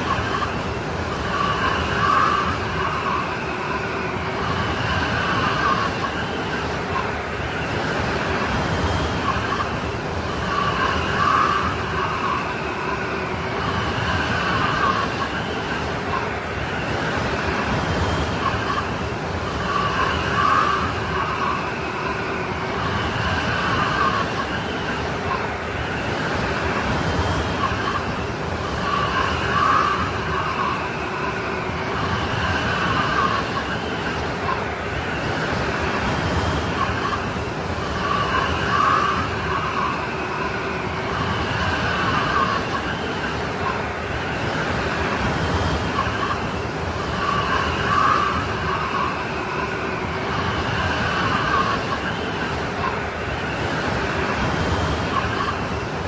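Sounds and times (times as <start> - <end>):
strong wind with whistling gusts: 0.0 - 56.0.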